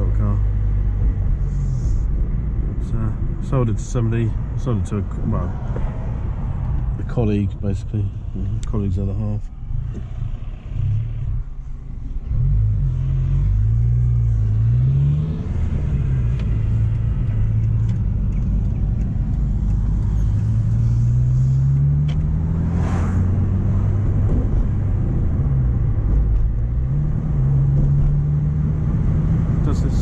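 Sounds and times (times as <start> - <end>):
car engine while driving: 0.0 - 30.0.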